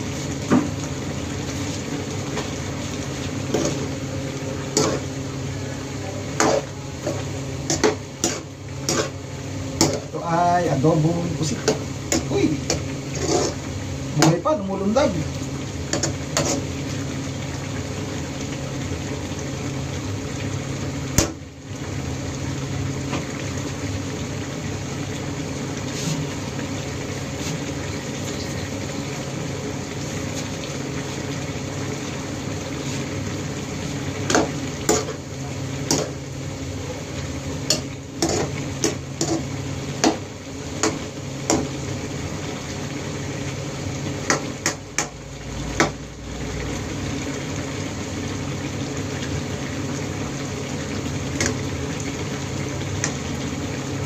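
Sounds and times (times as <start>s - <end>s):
sauce simmering in frying pan: 0.0s - 54.0s.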